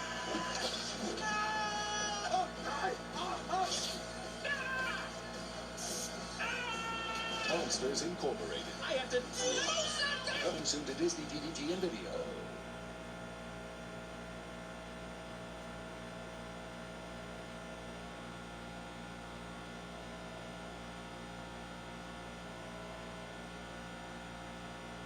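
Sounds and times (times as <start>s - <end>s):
electrical mains hum and buzz: 0.0s - 25.0s.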